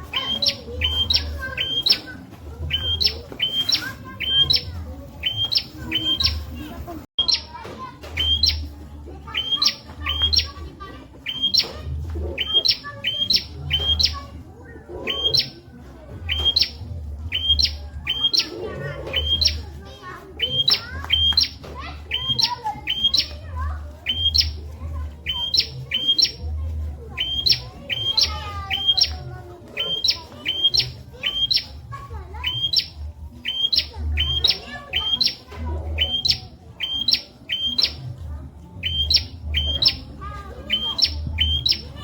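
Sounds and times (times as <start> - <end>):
soft bird twittering: 0.1 - 42.0.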